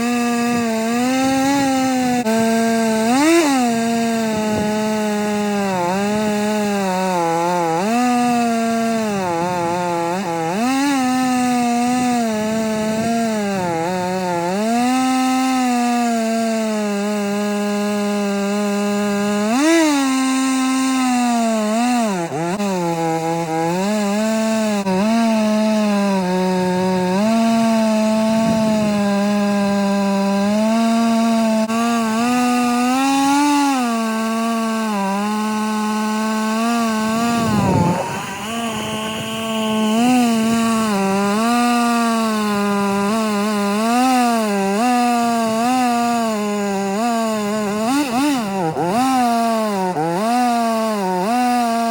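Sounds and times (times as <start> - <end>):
chainsaw cutting log under load: 0.0 - 51.9.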